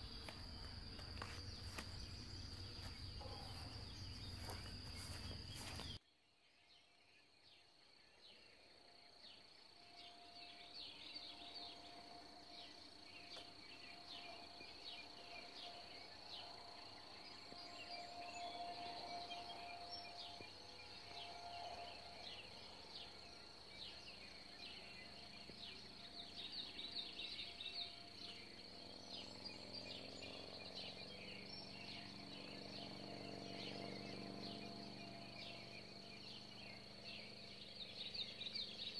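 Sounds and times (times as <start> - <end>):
insect trill: 0.0 - 6.0, 8.0 - 38.9
faint low drone: 0.0 - 38.9.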